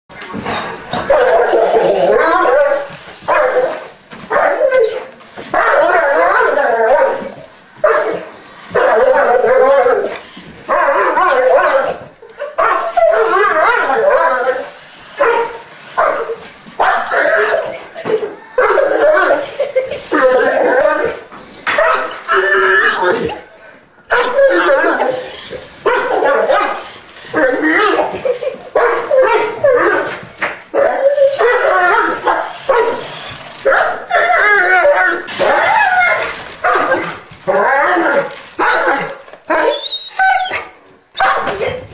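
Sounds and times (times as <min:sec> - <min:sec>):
dog whining: 0:00.3 - 0:41.6
dog yelping: 0:00.9 - 0:41.6.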